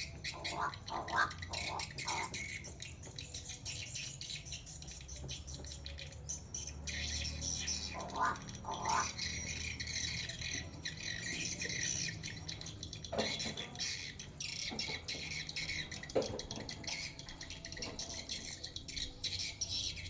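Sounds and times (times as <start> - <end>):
crow squawking: 0.0 - 3.8, 7.2 - 20.0.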